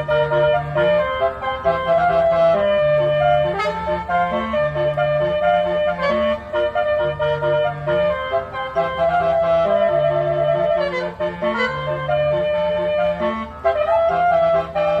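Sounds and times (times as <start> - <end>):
bus horn playing melody: 0.0 - 15.0.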